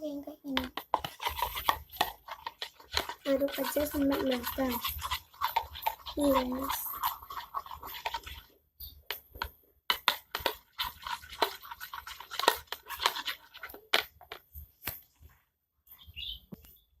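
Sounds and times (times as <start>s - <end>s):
stick stirring slime in container: 0.0s - 15.3s.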